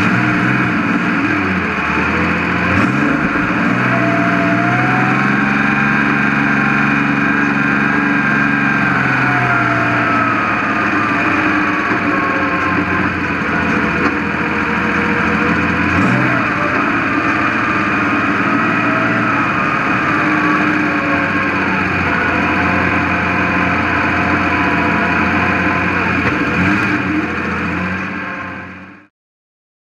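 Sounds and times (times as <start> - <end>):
race car engine running: 0.0 - 29.1.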